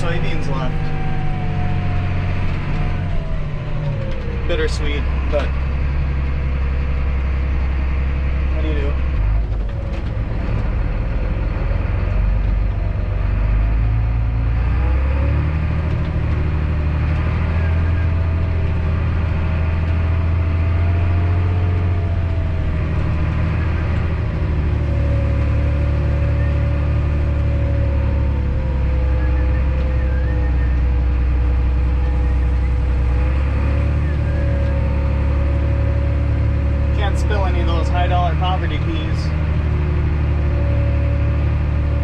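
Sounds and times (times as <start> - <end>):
farm vehicle engine running: 0.0 - 42.0.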